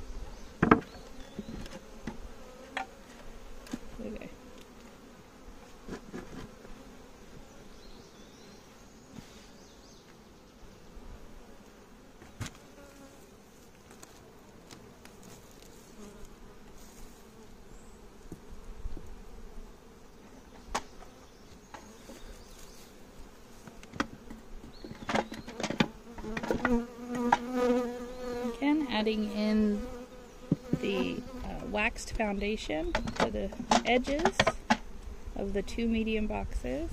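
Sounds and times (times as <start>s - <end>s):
honey bees buzzing: 0.0s - 36.9s.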